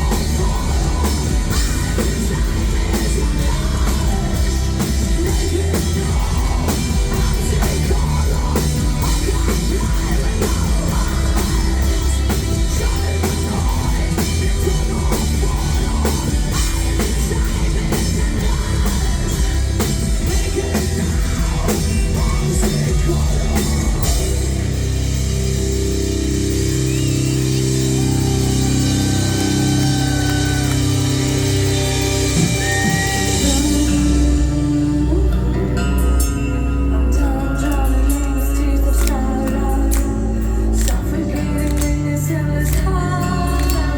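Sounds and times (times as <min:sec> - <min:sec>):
drum kit: 0:00.0 - 0:43.9
metal band playing live: 0:00.0 - 0:43.9.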